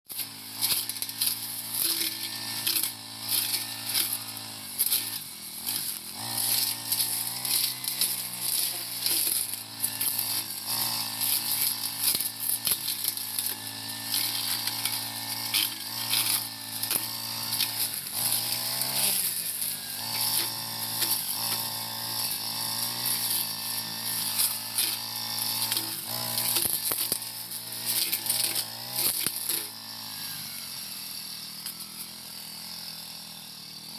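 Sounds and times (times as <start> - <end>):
brush cutter engine at high revs: 0.1 - 33.9.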